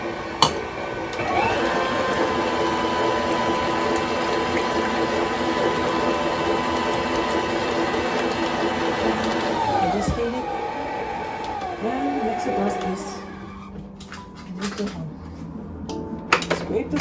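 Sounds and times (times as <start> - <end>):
beater churning in bowl: 0.0 - 14.2
stand mixer motor whine: 0.0 - 14.2.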